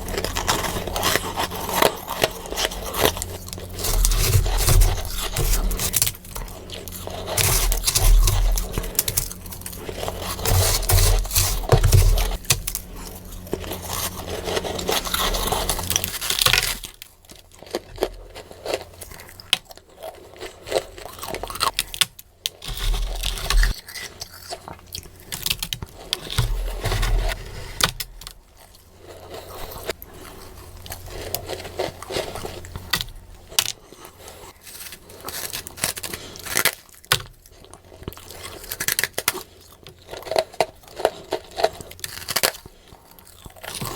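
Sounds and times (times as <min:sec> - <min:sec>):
frost crunching being chewed: 0:00.0 - 0:43.9.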